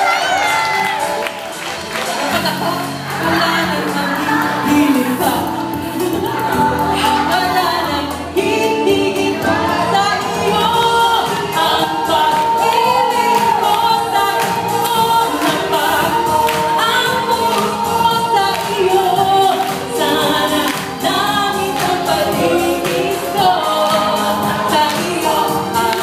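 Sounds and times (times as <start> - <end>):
backing music: 0.0 - 26.0
woman singing into a microphone: 2.2 - 26.0.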